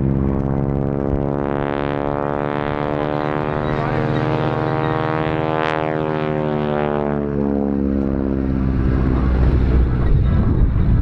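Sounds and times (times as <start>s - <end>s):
propeller aircraft passing: 0.0s - 11.0s.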